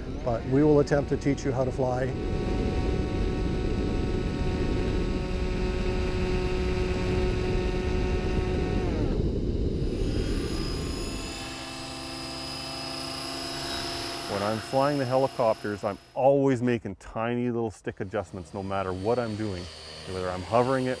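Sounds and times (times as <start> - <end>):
model aircraft engine running: 0.0 - 16.2, 17.8 - 21.0
model helicopter running: 0.0 - 16.2, 17.8 - 21.0.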